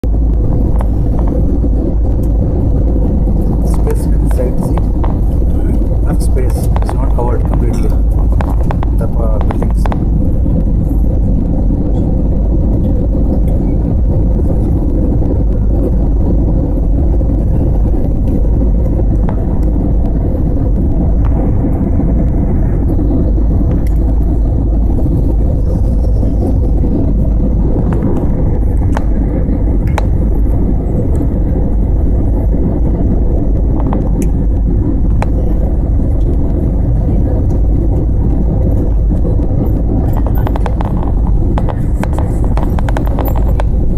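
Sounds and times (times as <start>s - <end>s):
airliner engine and airflow rumble: 0.0s - 43.9s.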